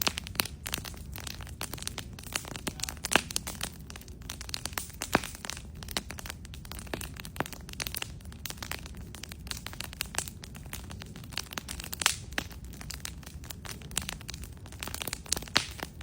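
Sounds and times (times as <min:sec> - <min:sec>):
bonfire crackling and popping: 0:00.0 - 0:16.0
low steady rumble: 0:00.0 - 0:16.0.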